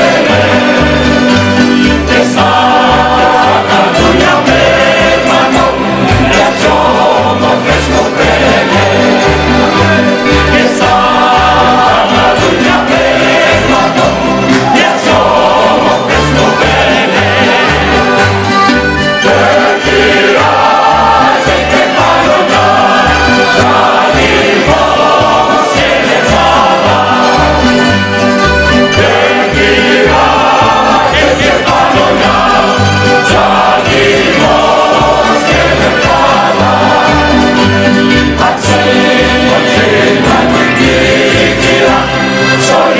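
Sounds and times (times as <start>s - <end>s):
group singing in harmony: 0.0s - 42.9s
plucked strings: 0.0s - 42.9s.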